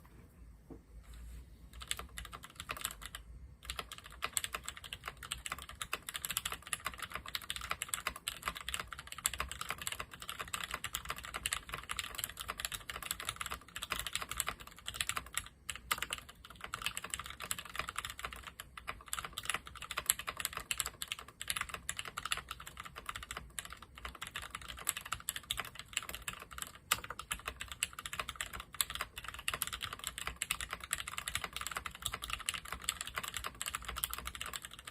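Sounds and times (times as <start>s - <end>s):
mechanical keyboard typing: 1.7s - 34.9s.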